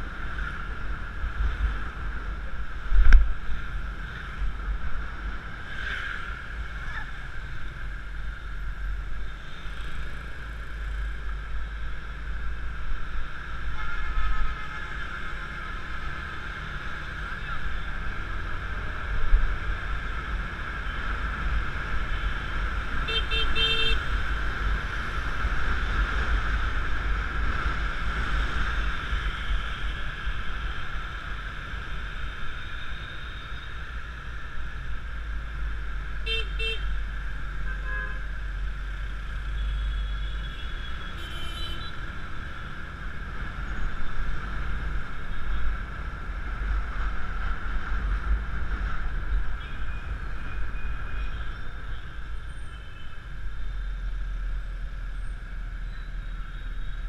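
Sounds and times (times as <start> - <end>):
road rumble: 0.0 - 57.0
wind: 0.0 - 57.0.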